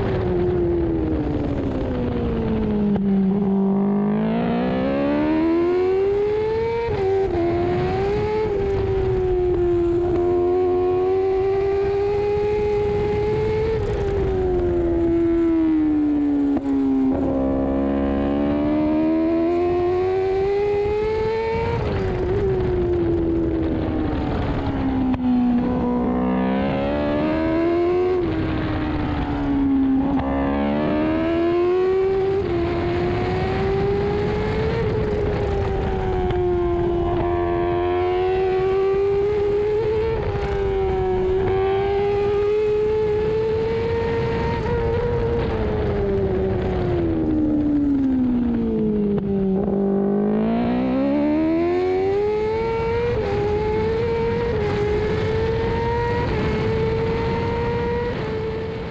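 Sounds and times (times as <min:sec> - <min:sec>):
motorcycle engine at racing speed: 0:00.0 - 0:58.9
rushing wind: 0:00.0 - 0:58.9.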